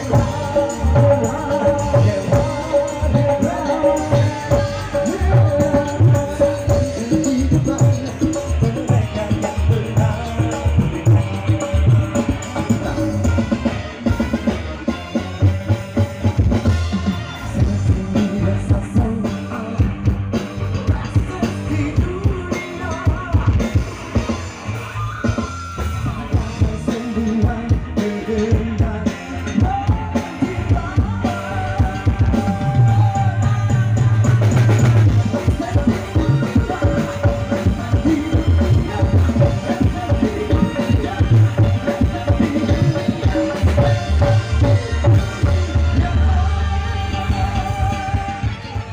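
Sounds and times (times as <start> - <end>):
man singing into a microphone: 0.0 - 14.5, 16.8 - 48.9
drum beat: 0.0 - 46.4
guitar: 0.0 - 48.9
keyboard: 0.0 - 48.9
live band playing: 0.0 - 48.9.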